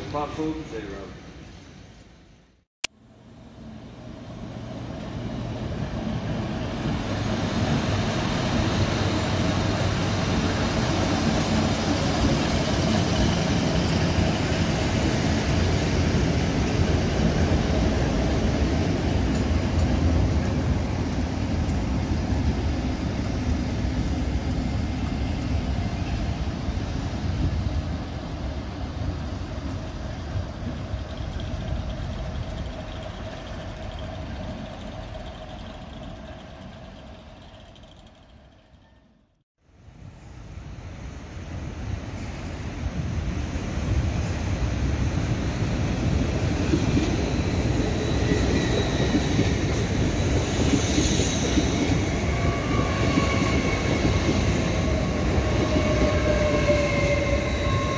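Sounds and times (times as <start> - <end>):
diesel locomotives passing: 3.1 - 39.4, 40.0 - 57.9.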